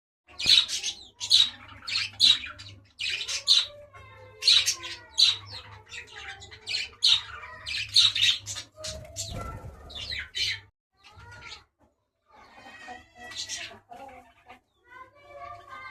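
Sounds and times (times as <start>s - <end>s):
birds squawking: 0.3s - 11.7s, 12.3s - 14.5s.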